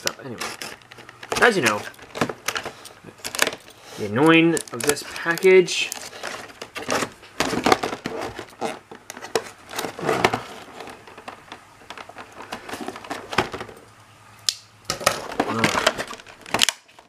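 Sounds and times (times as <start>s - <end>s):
packaging crinkling and rustling: 0.0s - 13.8s, 14.9s - 17.0s.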